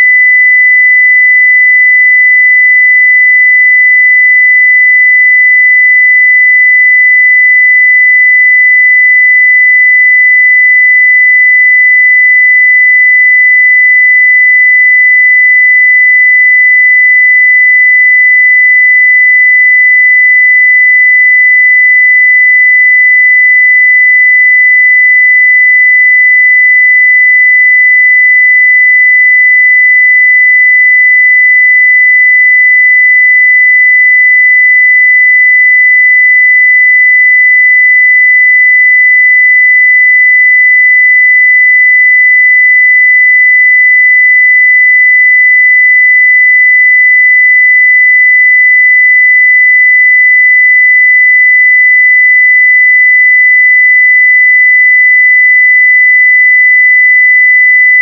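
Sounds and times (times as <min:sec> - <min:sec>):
high-pitched sine test tone: 0:00.0 - 0:58.0.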